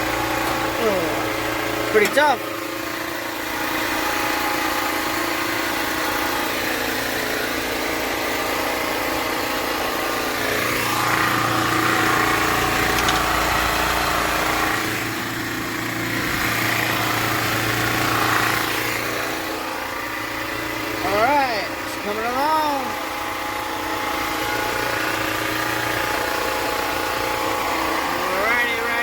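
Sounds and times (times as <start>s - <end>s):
generator running: 0.0s - 29.0s.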